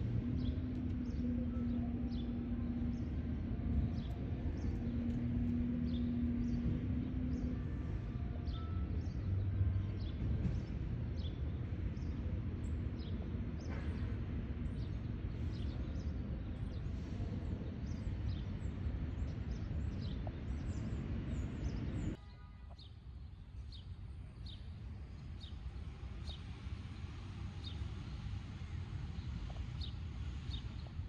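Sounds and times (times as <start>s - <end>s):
city background rumble: 0.0s - 31.0s.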